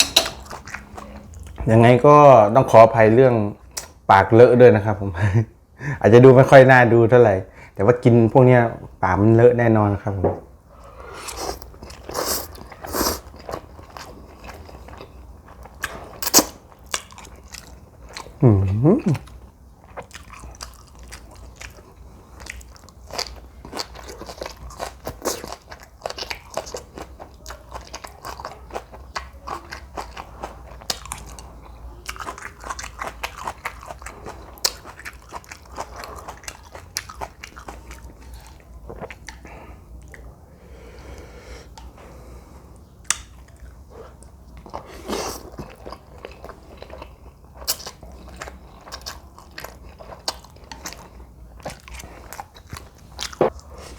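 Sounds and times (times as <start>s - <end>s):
person chewing food: 0.0s - 1.6s, 10.8s - 53.9s.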